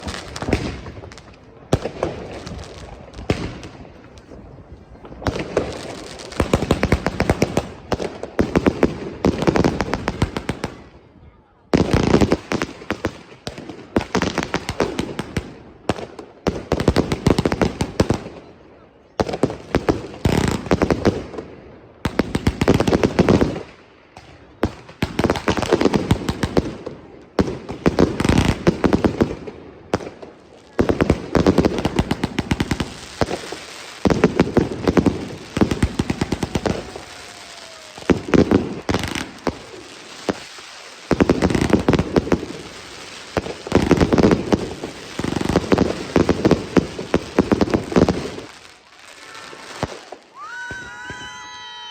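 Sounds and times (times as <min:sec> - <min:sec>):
firework bangs and crackles: 0:00.0 - 0:51.9.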